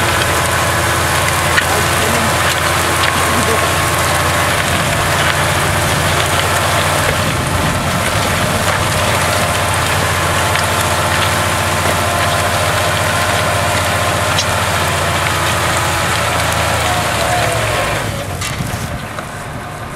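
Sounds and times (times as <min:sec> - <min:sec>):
tractor diesel engine under load: 0:00.0 - 0:19.9.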